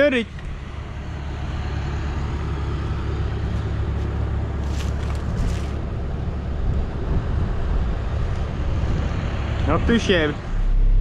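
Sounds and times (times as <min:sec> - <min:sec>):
engine running low rumble: 0:00.0 - 0:11.0.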